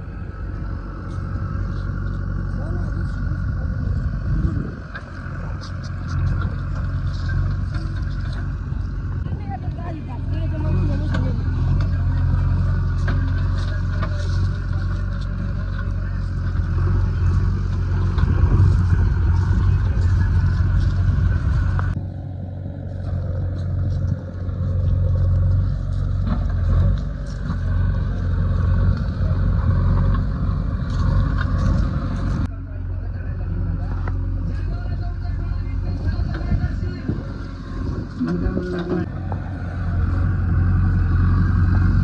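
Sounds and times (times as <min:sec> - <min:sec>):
diesel engine droning: 0:00.0 - 0:42.0.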